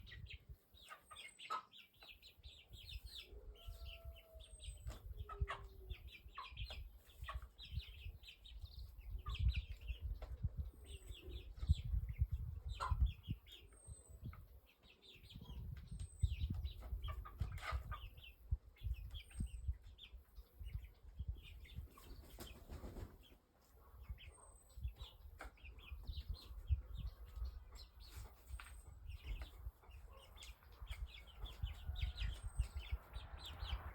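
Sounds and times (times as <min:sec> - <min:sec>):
wind rumble on microphone: 0:00.0 - 0:00.6, 0:02.5 - 0:23.2, 0:24.0 - 0:33.9
birds calling and chirping: 0:00.0 - 0:33.9.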